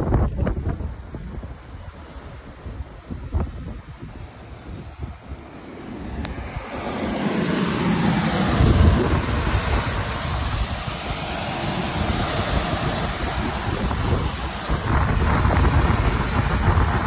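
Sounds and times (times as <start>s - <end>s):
seawater rushing along bow: 0.0s - 17.0s
wind buffeting microphone: 0.0s - 17.0s.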